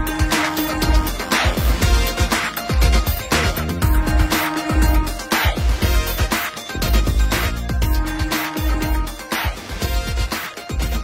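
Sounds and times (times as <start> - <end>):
upbeat music with drum beat: 0.0 - 11.0.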